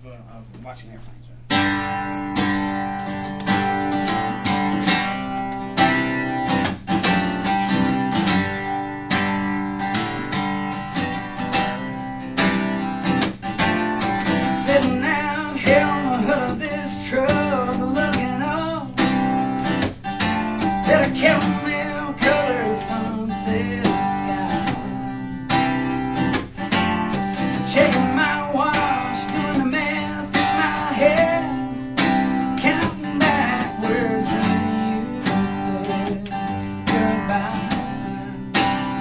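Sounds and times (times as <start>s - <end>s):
strummed acoustic guitar: 1.5s - 39.0s.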